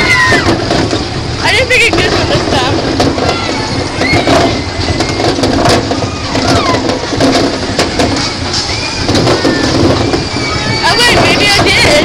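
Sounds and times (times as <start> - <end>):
fairground ride rumbling and rattling: 0.0 - 12.0.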